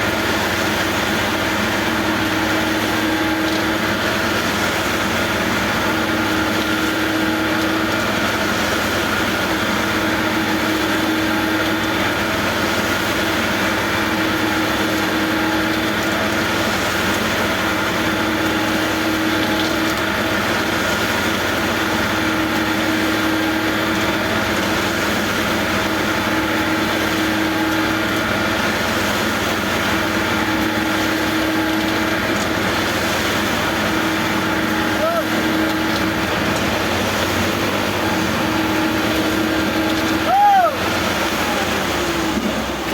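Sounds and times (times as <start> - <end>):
backhoe engine running: 0.0 - 42.9.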